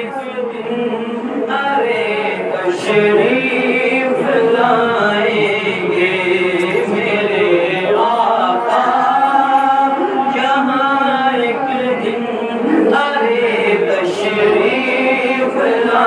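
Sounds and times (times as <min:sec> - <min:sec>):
man singing devotional song: 0:00.0 - 0:16.0.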